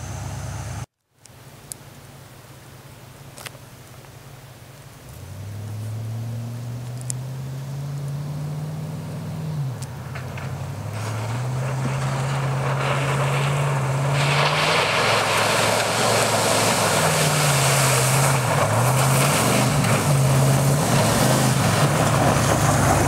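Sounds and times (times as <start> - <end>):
vehicle engine driving hard: 0.0 - 0.9, 4.9 - 23.0
tyres spraying through puddles: 3.2 - 23.0.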